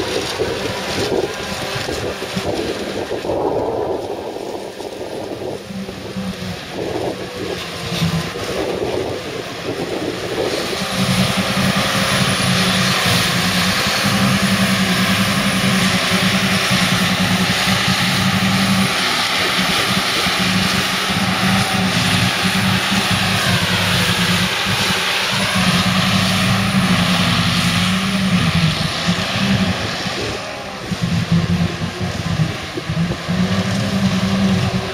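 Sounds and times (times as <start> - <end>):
heavy diesel engine drone: 0.0 - 34.9.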